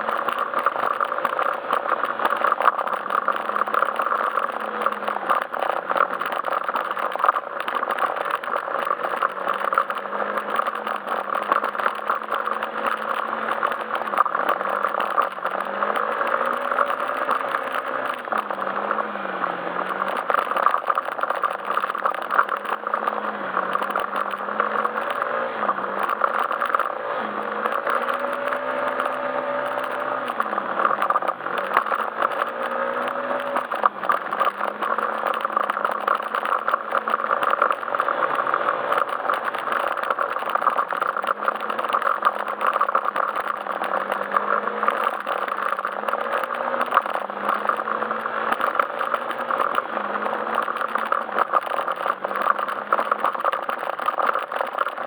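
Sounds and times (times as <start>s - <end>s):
rattling and road noise: 0.0s - 55.0s
scooter engine running: 0.0s - 55.0s.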